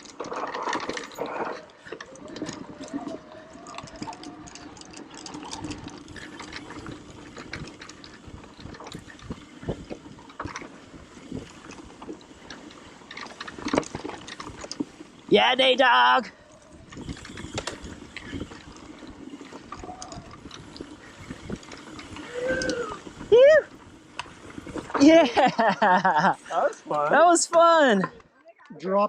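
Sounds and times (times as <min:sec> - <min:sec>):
bike tyres rushing on dirt: 0:00.0 - 0:28.1
bike clicking and rattling: 0:00.0 - 0:29.0.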